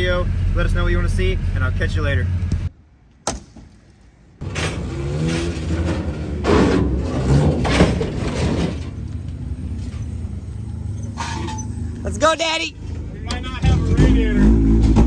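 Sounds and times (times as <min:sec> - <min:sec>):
car engine and road rumble: 0:00.0 - 0:02.8, 0:04.3 - 0:15.0.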